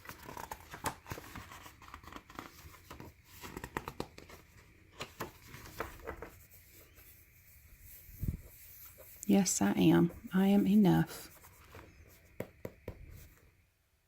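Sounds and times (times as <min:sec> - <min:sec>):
paper pages rustling: 0:00.0 - 0:13.4.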